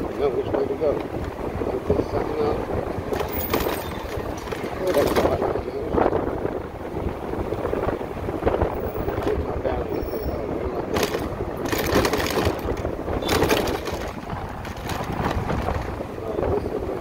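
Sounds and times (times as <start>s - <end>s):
motorcycle rattling on rough pavement: 0.0s - 17.0s
wind and road noise: 0.0s - 17.0s.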